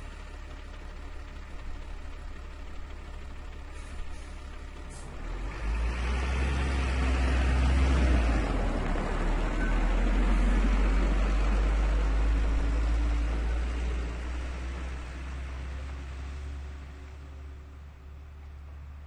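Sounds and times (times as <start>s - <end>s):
truck engine pulling away: 0.0s - 19.0s.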